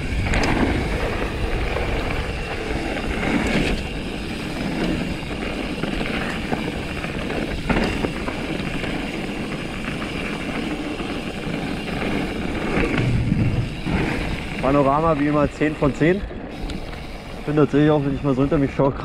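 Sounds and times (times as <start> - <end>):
bike rattling: 0.0 - 19.0
bike tyres rushing on dirt: 0.0 - 19.0.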